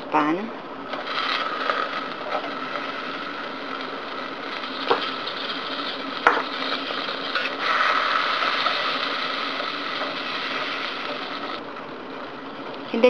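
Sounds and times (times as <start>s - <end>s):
butter sizzling in a saucepan: 0.9s - 13.0s.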